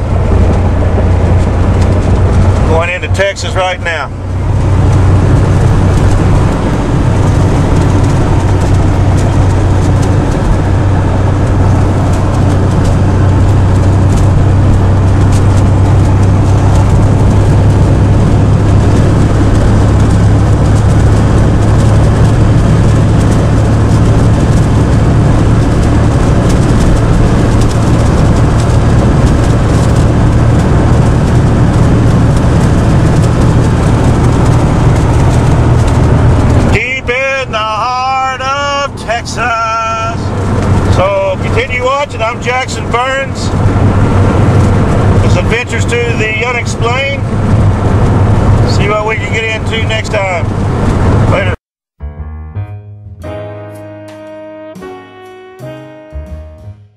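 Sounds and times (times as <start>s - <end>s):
car road and engine drone: 0.0s - 51.6s.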